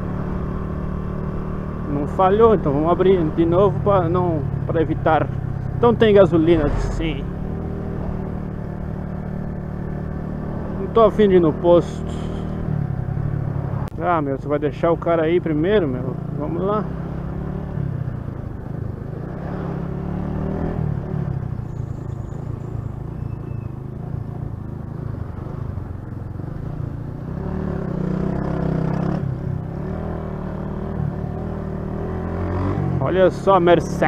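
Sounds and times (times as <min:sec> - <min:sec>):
motorcycle engine accelerating: 0:00.0 - 0:14.1, 0:15.2 - 0:34.0.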